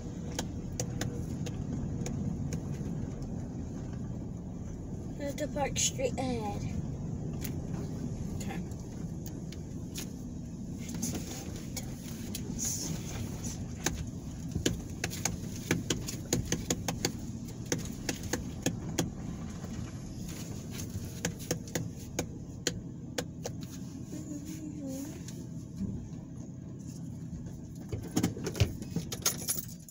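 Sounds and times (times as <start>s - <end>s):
car interior rumble: 0.0s - 29.9s.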